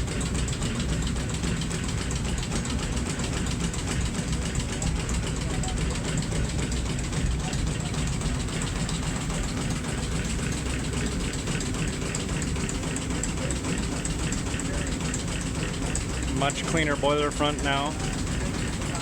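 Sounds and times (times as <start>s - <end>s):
steam engine clattering: 0.0s - 19.0s.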